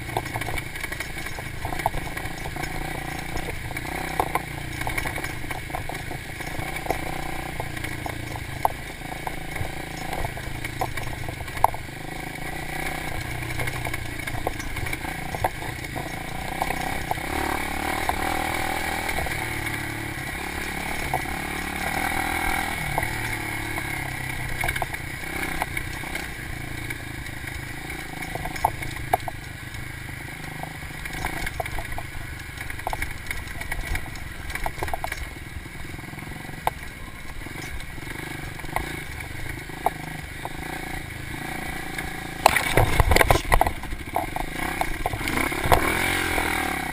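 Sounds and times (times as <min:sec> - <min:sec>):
bike knocks and clatter: 0:00.0 - 0:35.5, 0:36.6 - 0:46.9
dirt bike engine running: 0:00.0 - 0:46.9.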